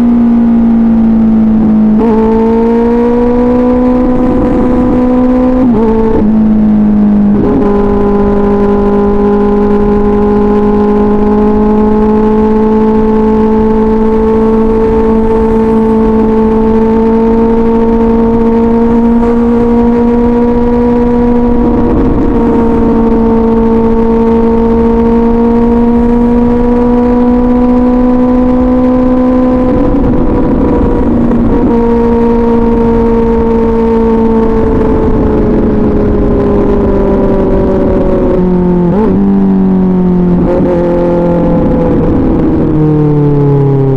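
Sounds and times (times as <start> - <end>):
motorcycle engine at mid revs: 0.0 - 43.9.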